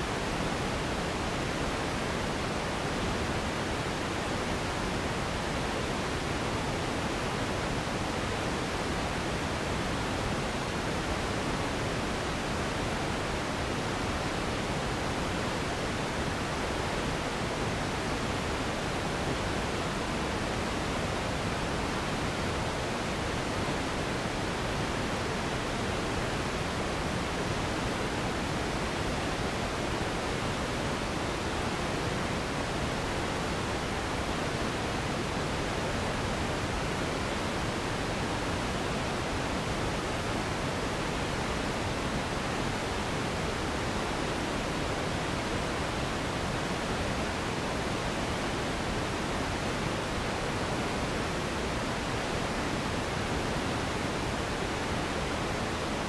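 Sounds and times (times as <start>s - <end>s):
steady hiss noise: 0.0s - 56.0s.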